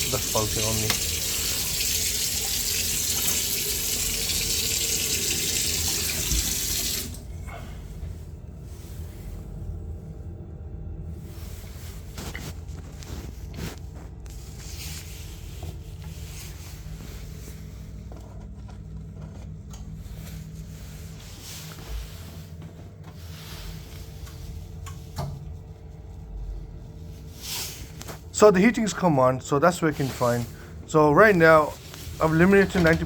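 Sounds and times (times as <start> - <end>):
gas boiler humming: 0.0 - 33.0.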